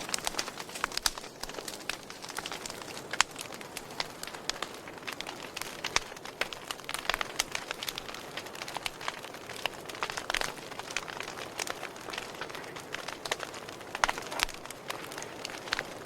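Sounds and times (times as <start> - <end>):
fire hissing: 0.0 - 16.0
wood crackling and popping: 0.0 - 16.0.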